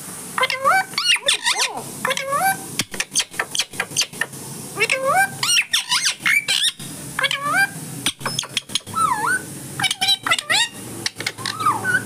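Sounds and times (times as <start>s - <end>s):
parrot chattering: 0.4s - 12.0s.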